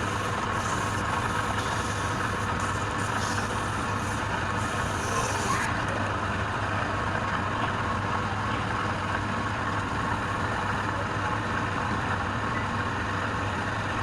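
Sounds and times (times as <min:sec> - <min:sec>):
motor running with low hum: 0:00.0 - 0:14.0.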